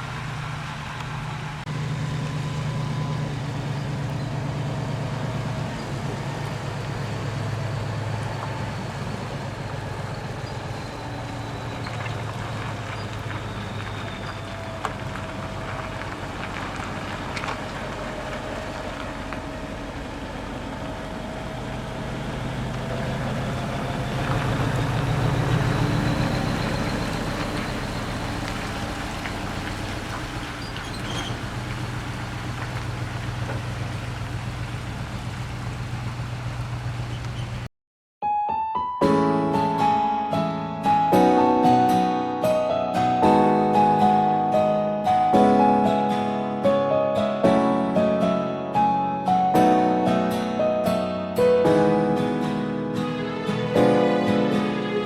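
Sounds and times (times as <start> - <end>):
diesel truck engine running: 0.0 - 37.7, 39.6 - 55.0.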